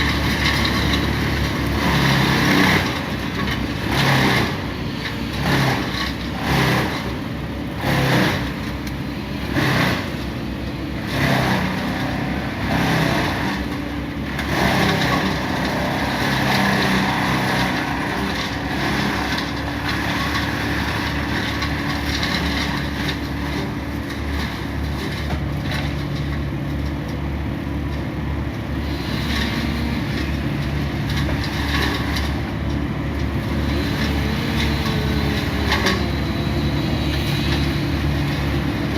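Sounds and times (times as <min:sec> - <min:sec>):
engine-driven machinery surging: 0:00.0 - 0:26.3, 0:28.6 - 0:38.9.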